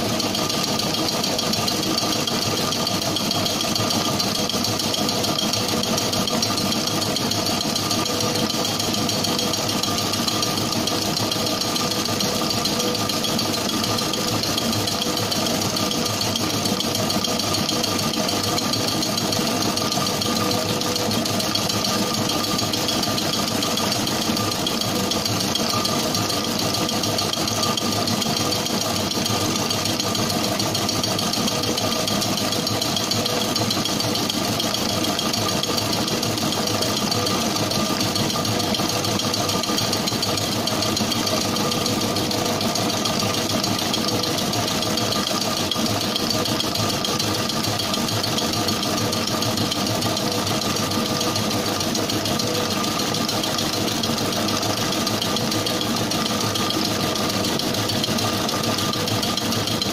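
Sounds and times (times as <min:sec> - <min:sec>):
mixing machine motor hum: 0:00.0 - 0:59.9
whisk beating batter: 0:00.0 - 0:59.9.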